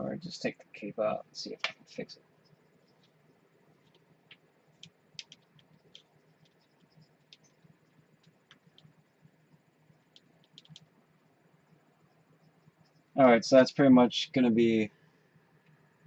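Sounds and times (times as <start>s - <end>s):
quiet low hum: 0.0s - 16.0s.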